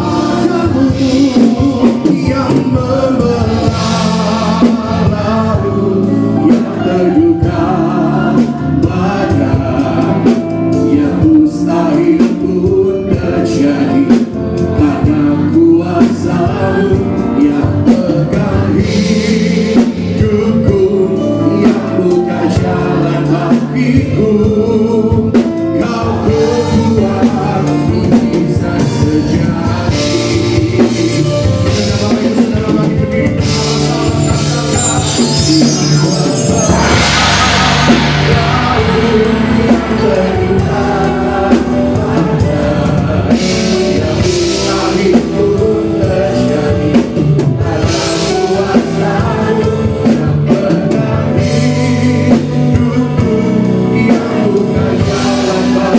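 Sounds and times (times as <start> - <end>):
band playing: 0.0 - 55.9
person singing worship song: 0.0 - 55.9.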